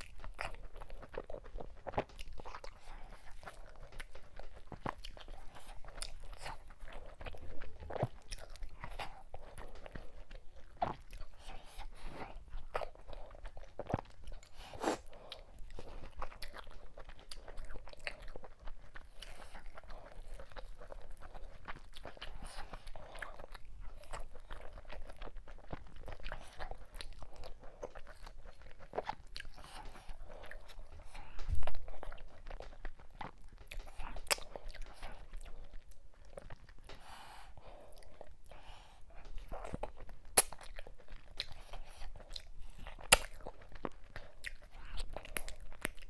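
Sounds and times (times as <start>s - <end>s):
chewing and mouth smacking: 0.0s - 46.0s.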